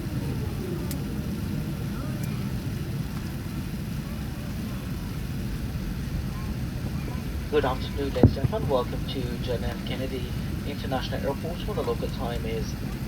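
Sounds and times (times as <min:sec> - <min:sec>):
airliner cabin rumble: 0:00.0 - 0:13.0
faint voices: 0:00.0 - 0:13.0.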